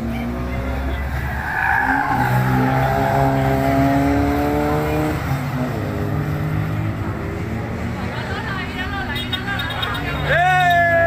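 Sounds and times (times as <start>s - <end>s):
car engines driving past: 0.0s - 11.0s.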